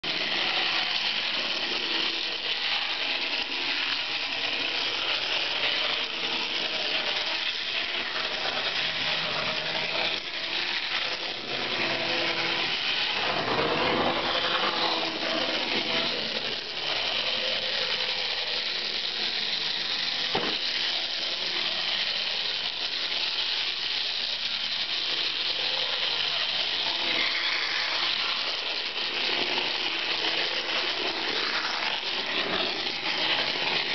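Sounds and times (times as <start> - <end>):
electric motors whirring: 0.0 - 33.9.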